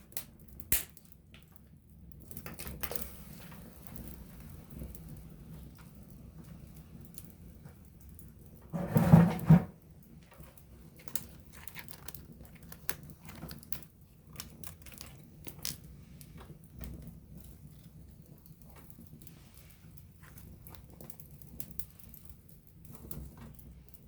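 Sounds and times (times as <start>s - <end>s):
campfire crackling: 0.0s - 8.8s, 9.7s - 24.0s.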